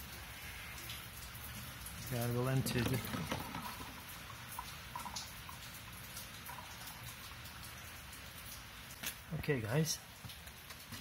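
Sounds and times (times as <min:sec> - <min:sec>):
oil trickling: 0:00.0 - 0:11.0
soft drips: 0:00.0 - 0:11.0.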